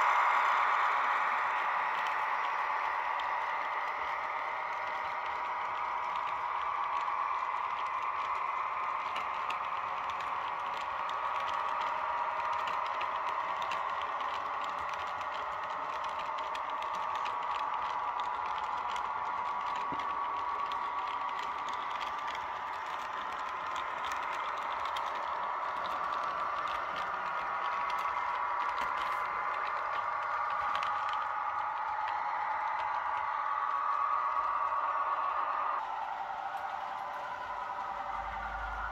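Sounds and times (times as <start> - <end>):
model train whirring: 0.0 - 38.9
wheels clicking over rails: 0.0 - 38.9.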